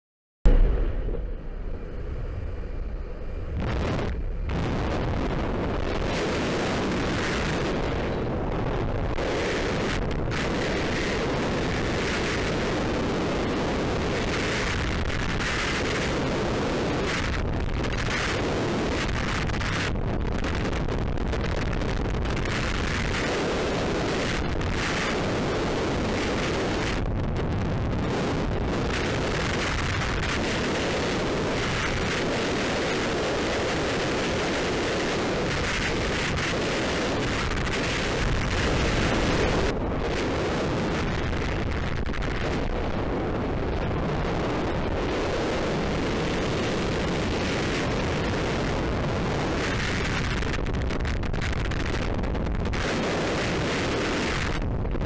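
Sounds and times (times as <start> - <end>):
wind rushing over microphone: 0.4 - 55.0.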